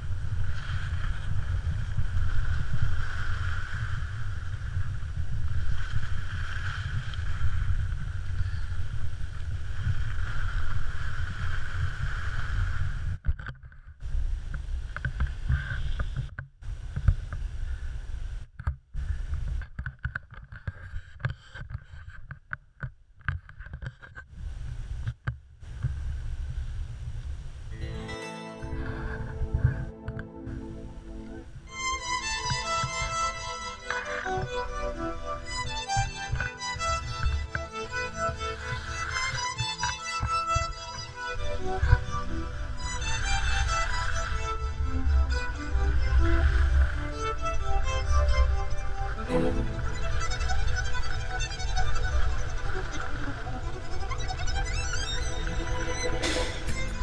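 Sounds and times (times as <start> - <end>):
wind buffeting microphone: 0.0 - 19.8, 24.3 - 27.8, 28.7 - 57.0.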